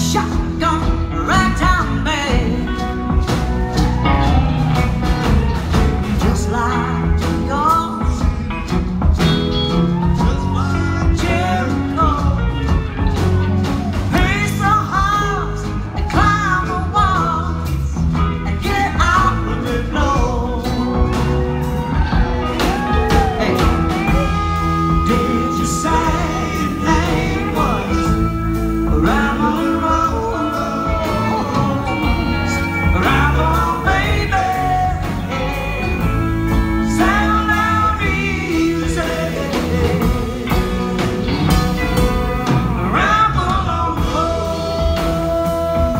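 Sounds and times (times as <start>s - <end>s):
country-rock band playing: 0.0s - 45.9s
person singing: 0.0s - 45.9s.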